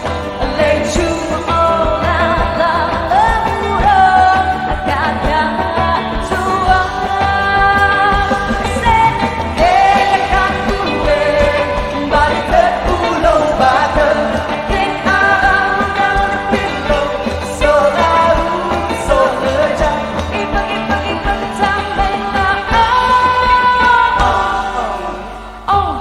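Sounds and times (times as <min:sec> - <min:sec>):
live band music: 0:00.0 - 0:26.0
person singing with vibrato: 0:00.0 - 0:26.0.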